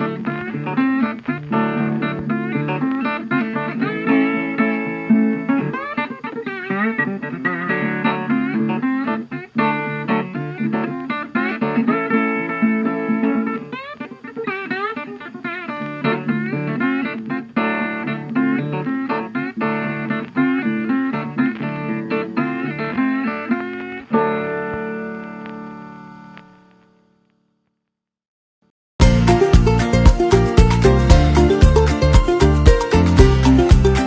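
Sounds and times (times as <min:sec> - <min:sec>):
bluesy guitar music: 0:00.0 - 0:27.2, 0:29.0 - 0:34.0.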